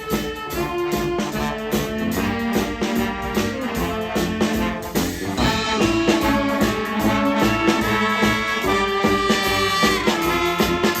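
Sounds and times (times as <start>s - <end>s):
brass band playing: 0.0s - 11.0s
drumbeat: 0.0s - 11.0s.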